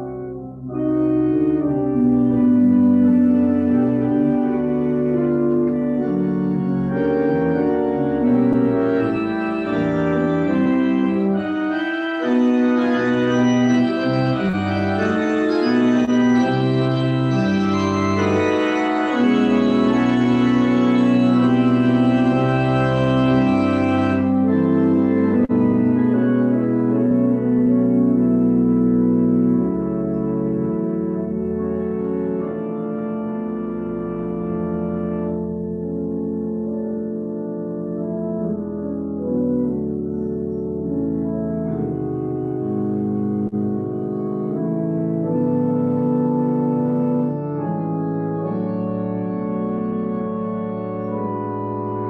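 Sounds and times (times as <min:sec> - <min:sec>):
pipe organ playing chords: 0:00.0 - 0:52.0.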